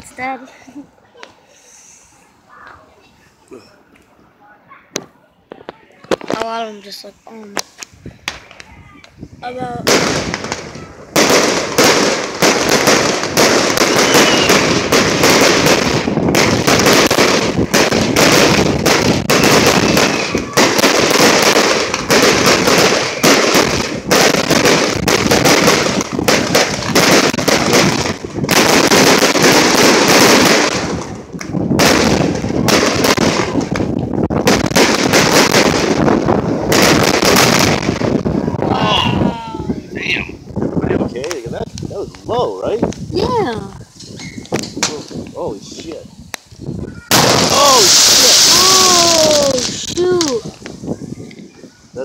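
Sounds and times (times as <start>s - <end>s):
fireworks crackling pops: 4.9s - 38.7s, 40.4s - 52.0s.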